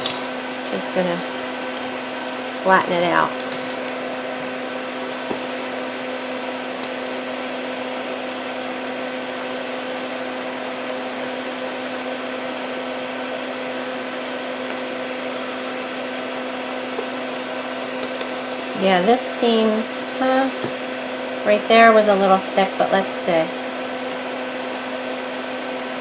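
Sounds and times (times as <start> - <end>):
small motor humming: 0.0 - 21.3.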